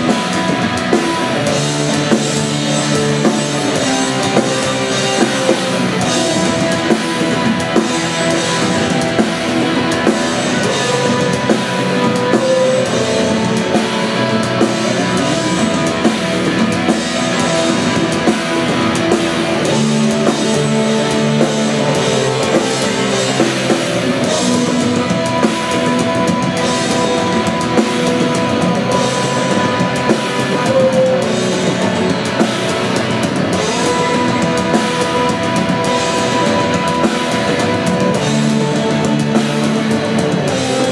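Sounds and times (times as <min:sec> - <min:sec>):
distorted guitars: 0:00.0 - 0:40.9
drum kit beat: 0:00.0 - 0:40.9.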